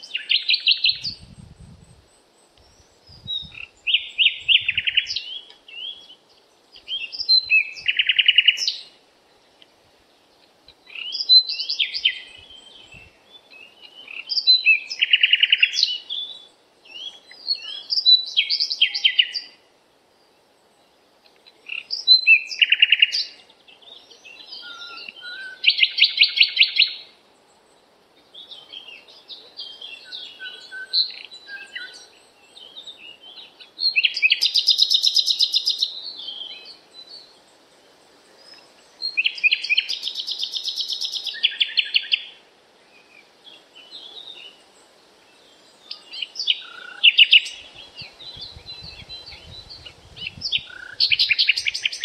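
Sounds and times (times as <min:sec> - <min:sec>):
faint background hiss: 0:00.0 - 0:52.0
songbirds singing: 0:00.0 - 0:52.0.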